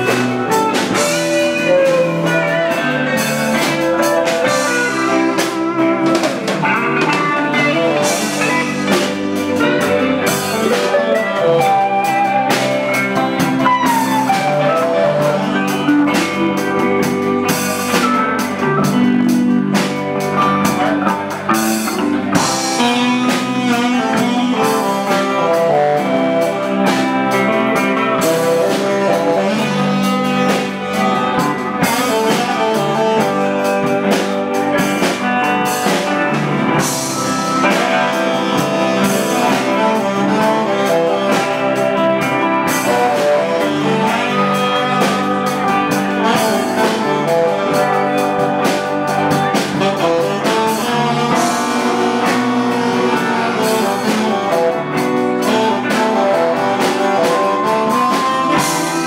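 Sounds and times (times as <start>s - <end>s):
live blues band playing: 0.0s - 59.0s
saxophone melody: 0.0s - 59.0s.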